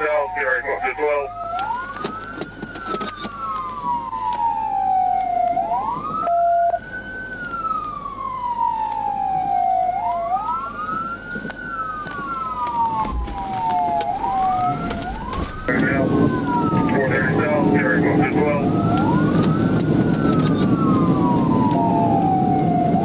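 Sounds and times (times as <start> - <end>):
police siren wailing: 0.0 - 23.0
second siren tone: 0.2 - 23.0.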